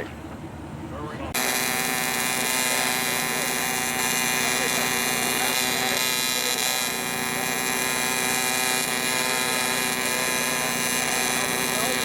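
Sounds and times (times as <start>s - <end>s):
welding arc buzzing: 1.3s - 12.0s.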